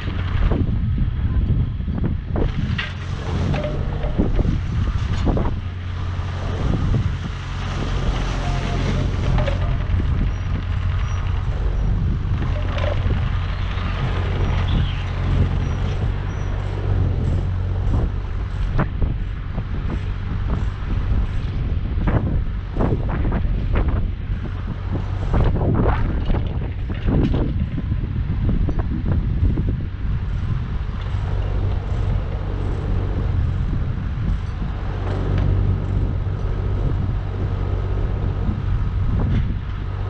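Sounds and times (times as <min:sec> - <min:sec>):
excavator diesel engine running: 0:00.0 - 0:40.0
wind on microphone: 0:00.0 - 0:40.0.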